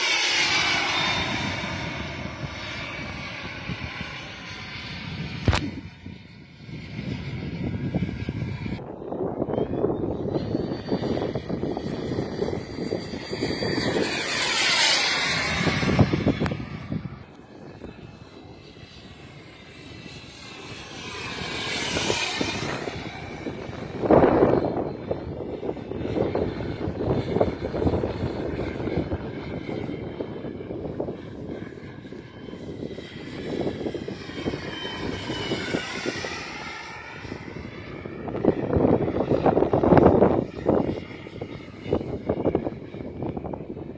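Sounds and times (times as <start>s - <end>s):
model jet engine whine: 0.0s - 43.9s
wind buffeting microphone: 0.0s - 43.9s.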